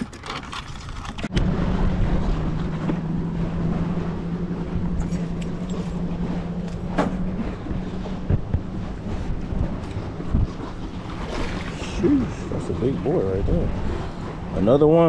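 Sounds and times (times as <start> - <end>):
boat motor humming: 0.0 - 15.0
water noise: 0.0 - 15.0
wind: 0.0 - 15.0.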